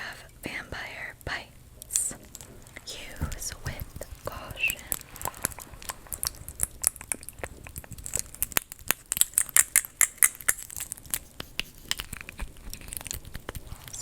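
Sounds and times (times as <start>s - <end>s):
crinkly scratching: 1.3s - 14.0s.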